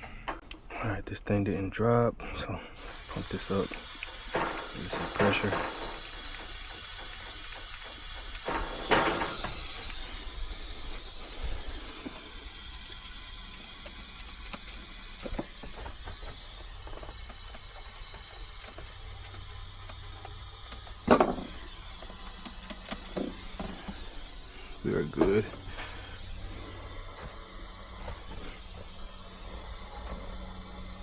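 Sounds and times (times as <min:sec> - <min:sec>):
gas hissing through hoses: 0:02.8 - 0:31.0.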